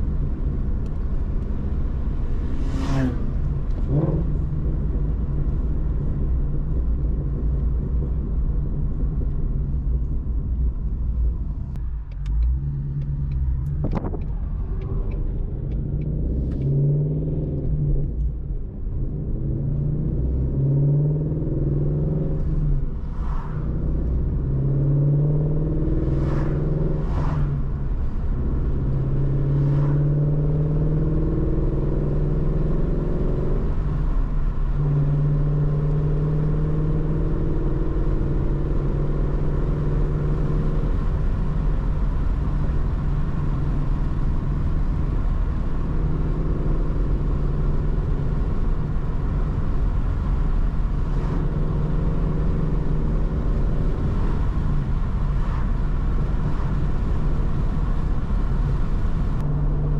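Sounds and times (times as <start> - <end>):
car engine running: 0.0 - 59.9
low road rumble: 0.0 - 59.9.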